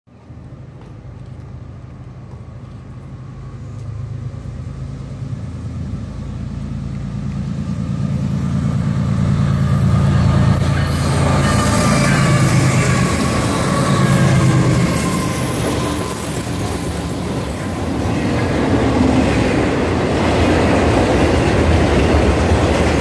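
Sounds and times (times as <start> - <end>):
diesel locomotive engines droning: 0.1 - 23.0
train wheels on rails: 0.1 - 23.0.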